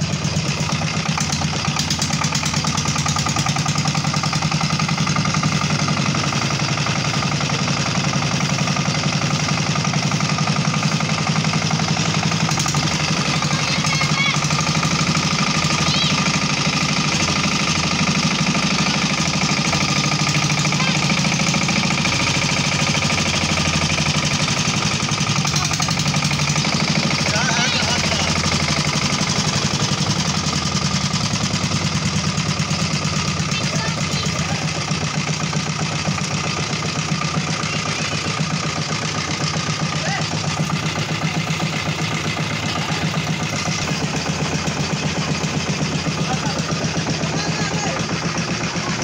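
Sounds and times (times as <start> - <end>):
diesel engine knocking: 0.0 - 49.0.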